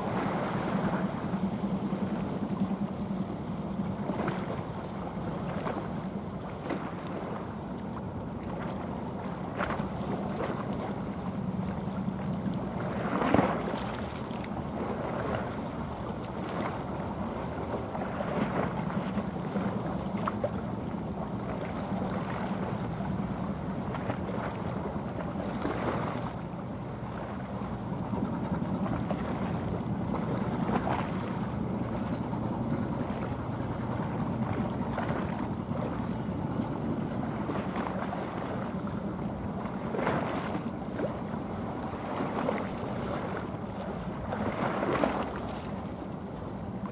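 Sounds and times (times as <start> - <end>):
boat engine hum: 0.0 - 46.9.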